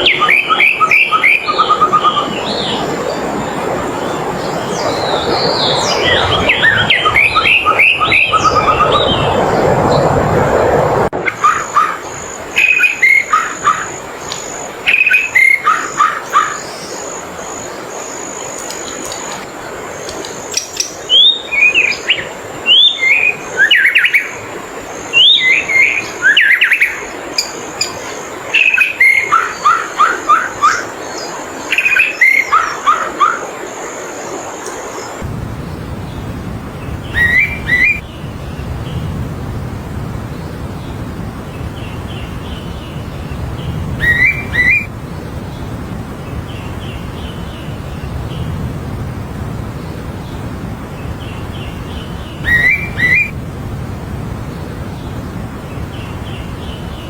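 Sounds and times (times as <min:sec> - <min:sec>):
songbird singing: 0:00.0 - 0:10.2, 0:11.3 - 0:57.0.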